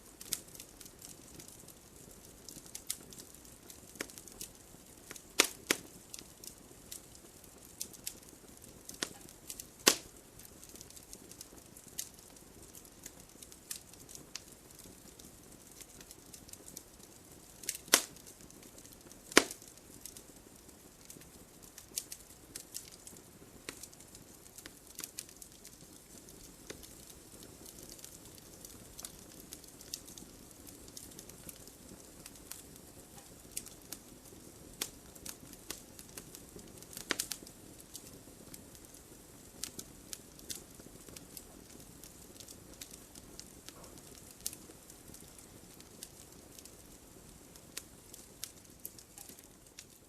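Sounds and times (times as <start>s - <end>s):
low steady fire hiss: 0.0s - 50.0s
wood fire popping and snapping: 0.0s - 50.0s.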